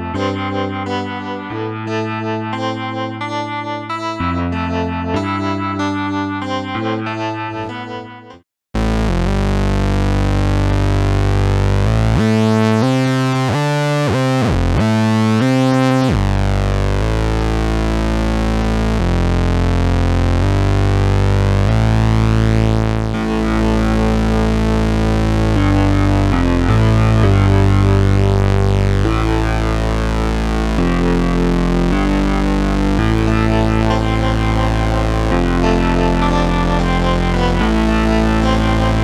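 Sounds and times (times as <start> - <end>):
sustained synth chords: 0.0 - 39.0.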